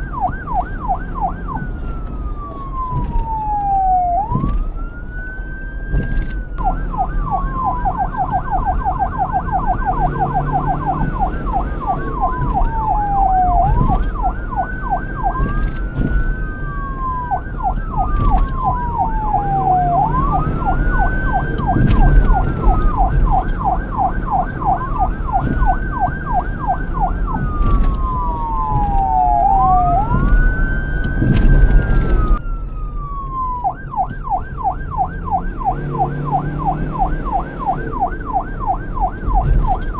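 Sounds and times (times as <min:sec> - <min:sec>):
police siren wailing and yelping: 0:00.0 - 0:39.9.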